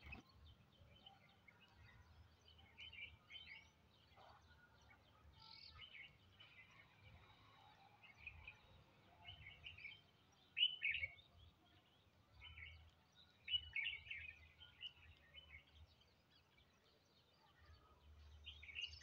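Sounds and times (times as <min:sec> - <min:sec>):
sparrows chirping: 0:00.0 - 0:19.0.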